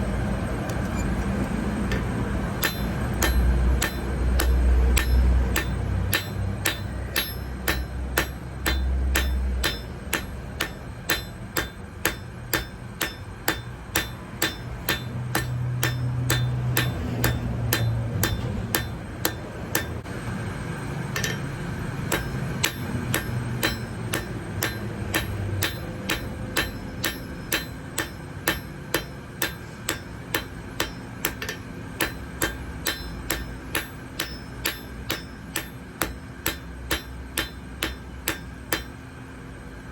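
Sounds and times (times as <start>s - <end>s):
hammer striking metal on anvil: 1.8s - 20.1s, 21.0s - 39.4s.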